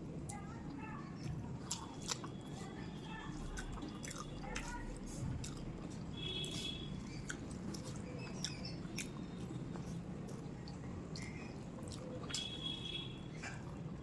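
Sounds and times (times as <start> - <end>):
chewing with wet mouth clicks: 0.2 - 14.0.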